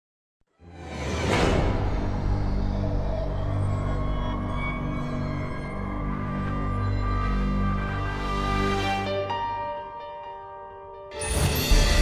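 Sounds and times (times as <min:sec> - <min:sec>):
music with deep drone: 0:00.7 - 0:12.0.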